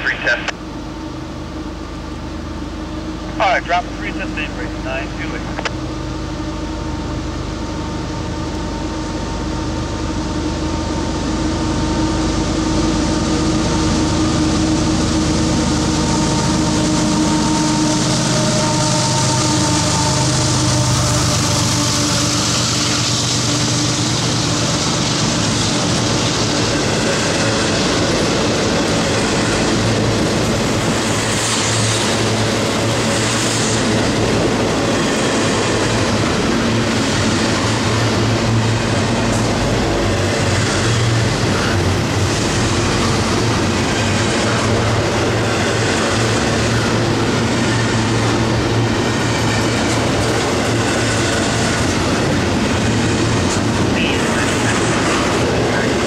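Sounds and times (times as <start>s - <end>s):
diesel locomotive engine drone: 0.0s - 56.0s
freight cars rumbling on rails: 0.0s - 56.0s.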